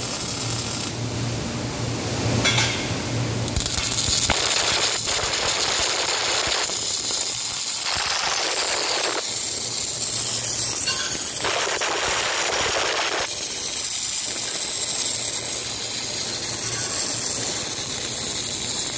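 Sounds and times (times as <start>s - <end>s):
crackling welding spatter: 0.0s - 1.1s, 2.4s - 18.9s
welding arc hissing: 0.0s - 1.1s, 2.5s - 18.9s.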